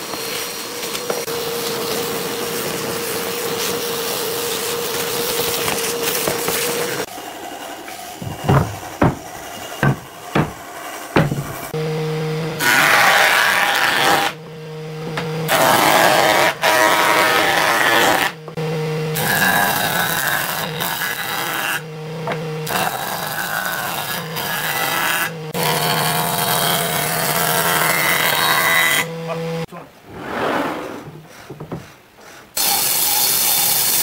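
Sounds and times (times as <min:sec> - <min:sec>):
jointer cutting wooden boards: 0:00.8 - 0:29.7.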